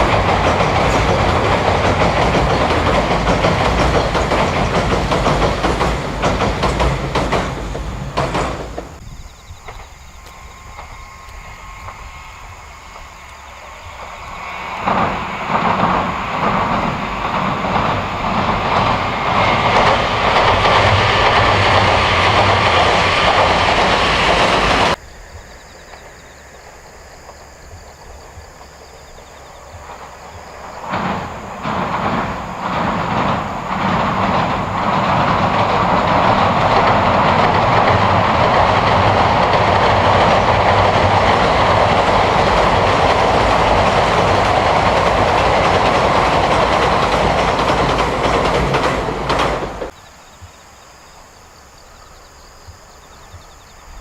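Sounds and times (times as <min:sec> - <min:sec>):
train wheels clattering on bridge: 0:00.0 - 0:51.4.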